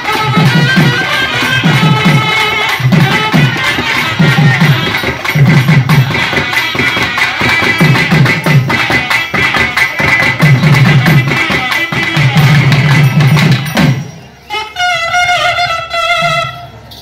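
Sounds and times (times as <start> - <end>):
double-reed wind instrument melody: 0.0 - 12.9, 14.3 - 17.0
drums beating fast rhythm: 0.0 - 14.2.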